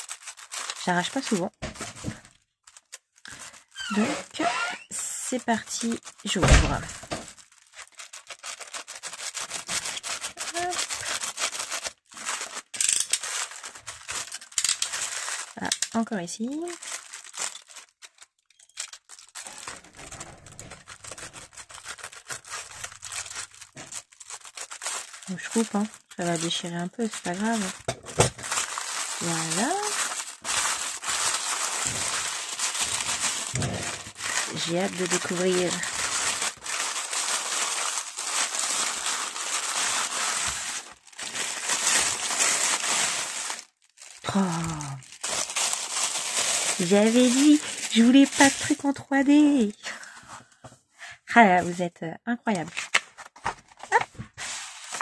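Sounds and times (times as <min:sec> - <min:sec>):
tissue paper crinkling: 0:00.0 - 0:50.3, 0:52.6 - 0:55.0.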